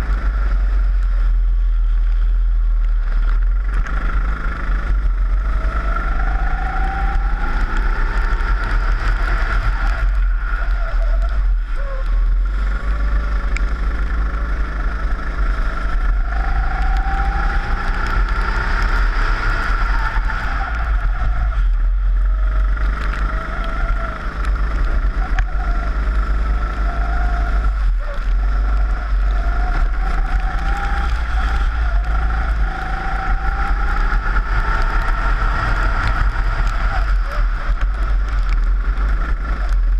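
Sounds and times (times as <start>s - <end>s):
wind buffeting on camera: 0.0s - 39.9s
kart engine accelerating: 3.6s - 39.9s.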